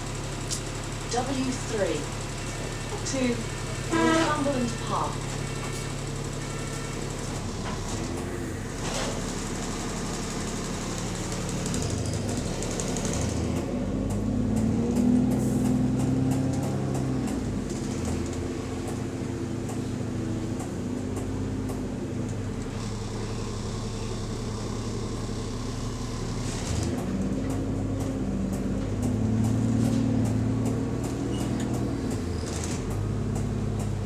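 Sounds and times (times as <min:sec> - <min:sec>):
bus engine running: 0:00.0 - 0:34.0.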